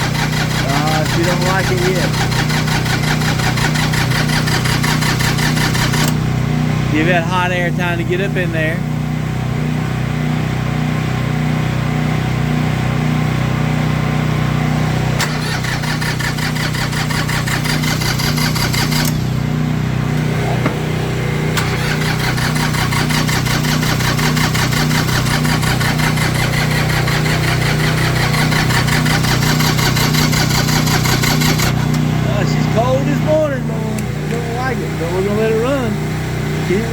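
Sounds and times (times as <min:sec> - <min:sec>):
diesel engine idling with clatter: 0:00.0 - 0:36.9.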